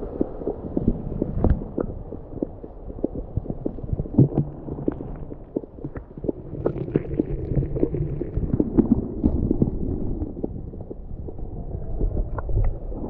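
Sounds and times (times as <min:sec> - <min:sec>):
underwater knocks and clicks: 0:00.0 - 0:13.0
underwater water sloshing: 0:00.0 - 0:13.0.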